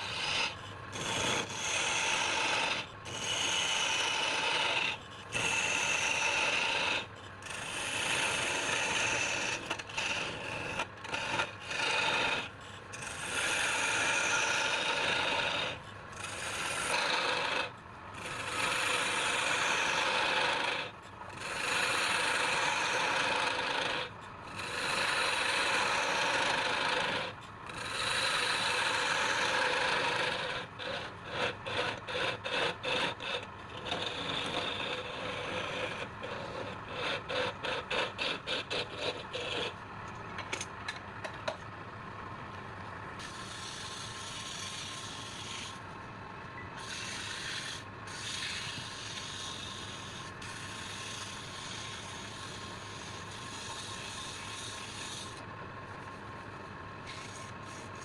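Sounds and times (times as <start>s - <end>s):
lathe running: 0.0s - 41.6s, 42.2s - 46.0s, 46.8s - 58.0s
tool rubbing spinning wood: 0.0s - 46.0s, 46.8s - 58.0s.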